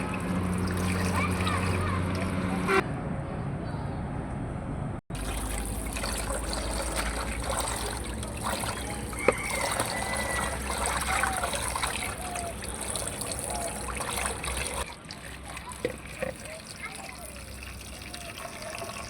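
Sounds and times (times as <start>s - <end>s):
water trickling: 0.0s - 2.8s, 5.1s - 19.0s.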